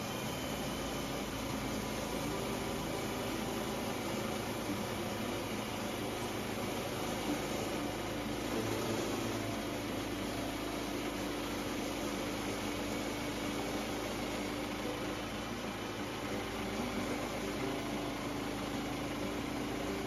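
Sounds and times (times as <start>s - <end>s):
small gas engine running: 0.0s - 20.0s.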